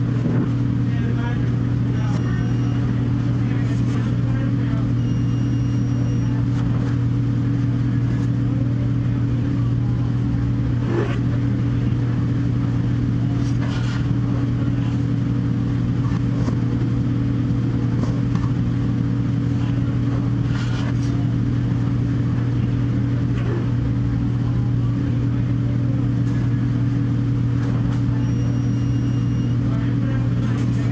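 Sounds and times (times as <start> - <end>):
low machine hum: 0.0 - 30.9.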